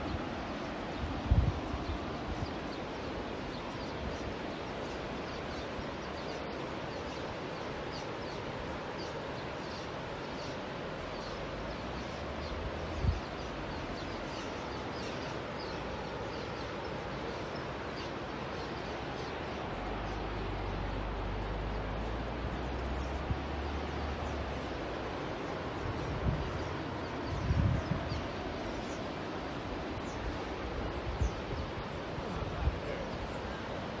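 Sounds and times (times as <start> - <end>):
outdoor background rush: 0.0 - 34.0
small birds chirping: 0.0 - 34.0.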